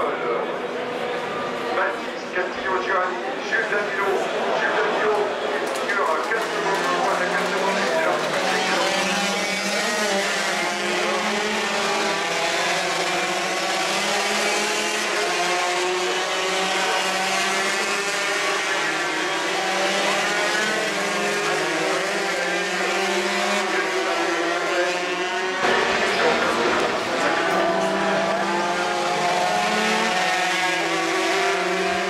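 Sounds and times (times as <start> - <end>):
racing motorcycles revving: 1.4 - 32.0.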